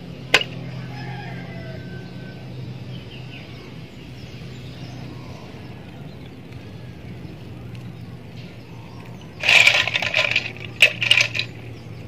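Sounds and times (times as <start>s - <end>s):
faint chicken calls: 0.0s - 3.9s, 4.6s - 12.0s
steady low hum: 0.0s - 12.0s.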